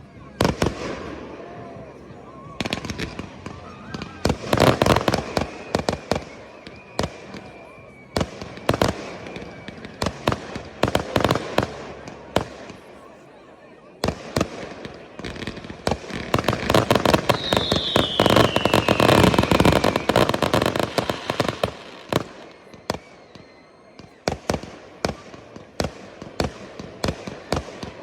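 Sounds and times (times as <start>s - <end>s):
fireworks bangs and crackle: 0.0s - 28.0s
whistling firework falling in pitch: 0.2s - 13.2s, 14.0s - 28.0s.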